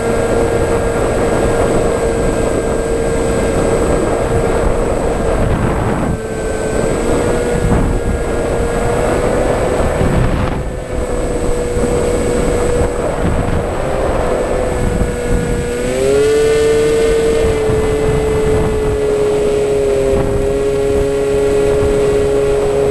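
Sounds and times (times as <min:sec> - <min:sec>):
model aircraft motor whine: 0:00.0 - 0:22.9
wind rushing over microphone: 0:00.0 - 0:22.9.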